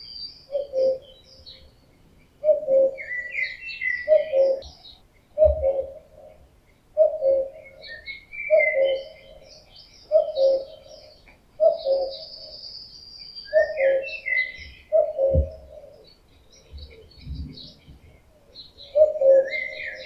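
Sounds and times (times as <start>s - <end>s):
cuckoo calling: 0.0s - 20.0s
small birds twittering: 0.0s - 20.0s.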